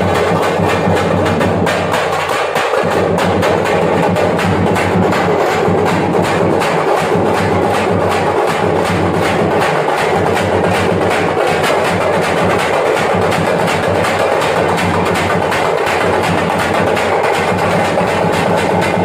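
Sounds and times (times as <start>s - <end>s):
frame drums playing fast rhythm: 0.0s - 19.0s.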